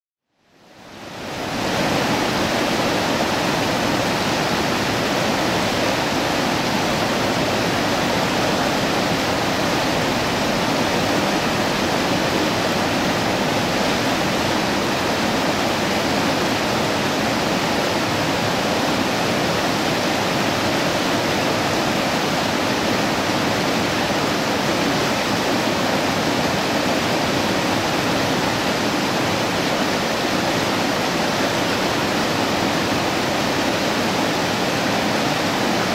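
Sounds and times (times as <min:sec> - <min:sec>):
river water rushing: 0:00.5 - 0:35.9.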